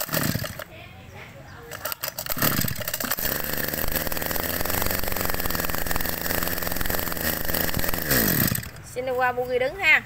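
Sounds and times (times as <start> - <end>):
brush cutter engine running: 0.0 - 0.7, 1.6 - 9.2.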